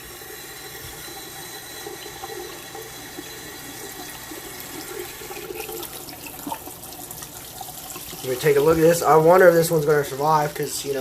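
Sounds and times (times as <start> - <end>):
water running from sink tap: 0.0 - 11.0.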